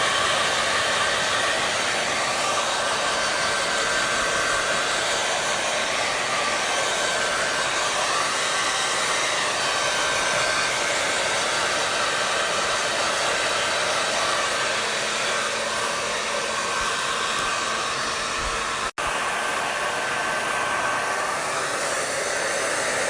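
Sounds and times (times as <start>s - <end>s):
hair dryer blowing: 0.0s - 23.0s.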